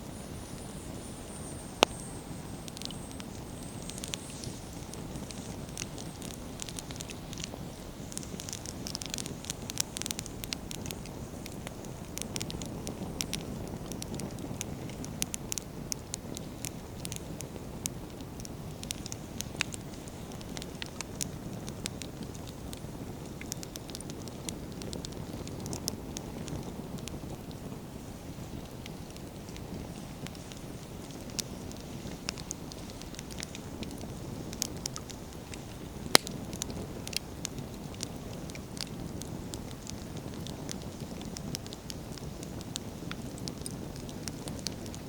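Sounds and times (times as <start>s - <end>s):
campfire crackling and popping: 0.0s - 45.0s.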